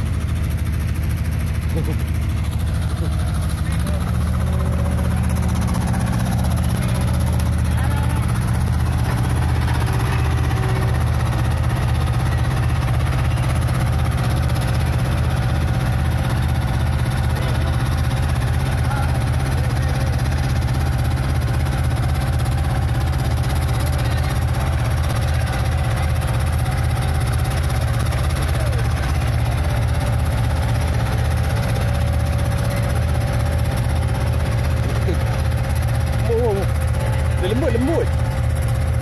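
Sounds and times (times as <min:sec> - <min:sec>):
road roller engine throbbing: 0:00.0 - 0:39.0.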